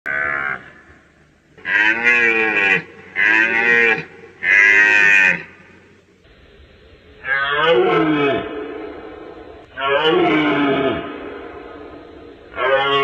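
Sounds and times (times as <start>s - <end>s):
red deer calling: 0.1s - 5.9s, 7.2s - 13.0s.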